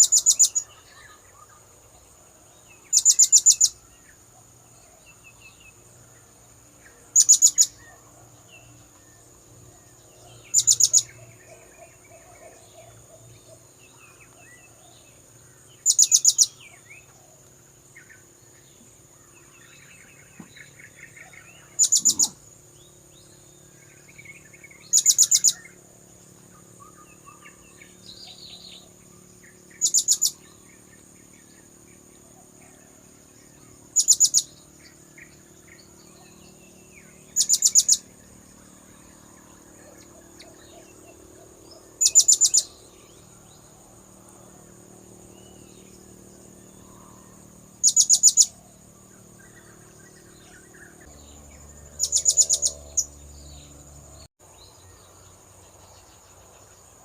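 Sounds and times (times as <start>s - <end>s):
faint chirps: 0.0s - 57.0s
faint high insect-like tone: 0.0s - 57.0s.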